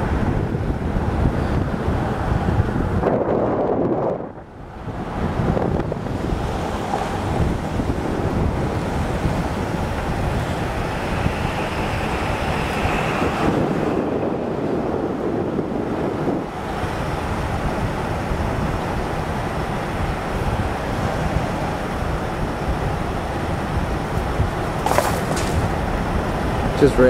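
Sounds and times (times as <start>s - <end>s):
truck rumbling on road: 0.0s - 27.0s
wind rushing over microphone: 0.0s - 27.0s.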